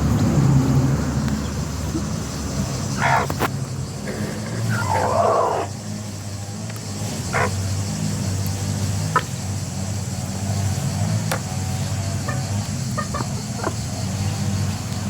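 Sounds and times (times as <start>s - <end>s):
chickens clucking: 1.2s - 15.0s.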